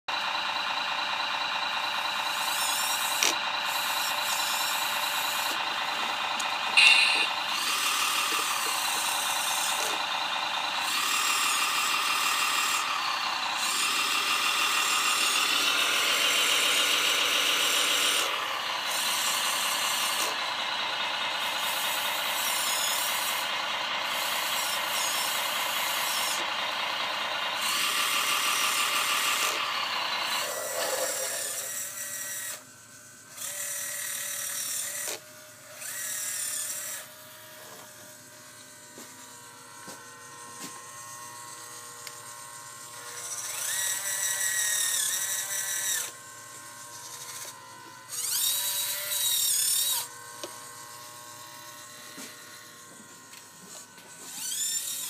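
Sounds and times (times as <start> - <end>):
motor whine: 0.1 - 55.0.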